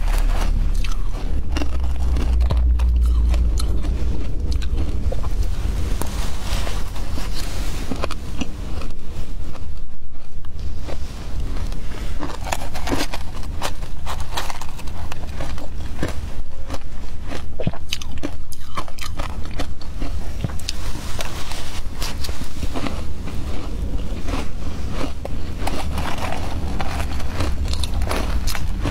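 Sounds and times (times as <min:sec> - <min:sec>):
ice being chewed crunching: 0:00.0 - 0:28.9
steady low rumble: 0:00.0 - 0:28.9.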